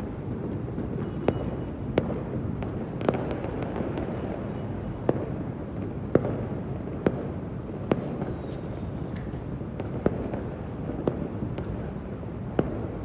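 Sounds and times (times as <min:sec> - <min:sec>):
low rumble of distant fireworks: 0:00.0 - 0:13.0
sharp firework bangs: 0:01.1 - 0:13.0.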